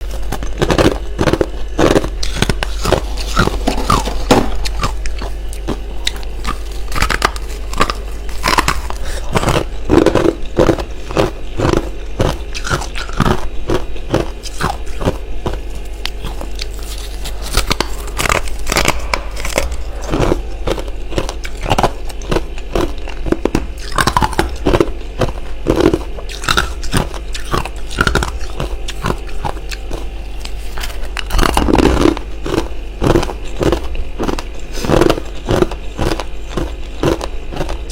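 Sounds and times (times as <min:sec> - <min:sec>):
person chewing frost crunching: 0:00.0 - 0:37.9.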